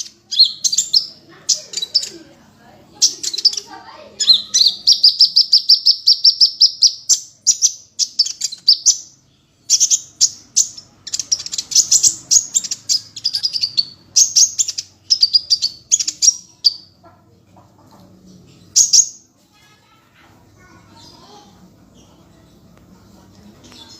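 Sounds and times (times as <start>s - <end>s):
songbird singing: 0.0s - 19.3s.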